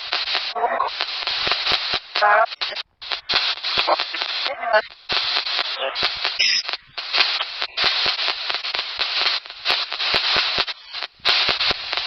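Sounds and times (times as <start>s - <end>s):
radio static hissing in bursts: 0.0s - 12.0s.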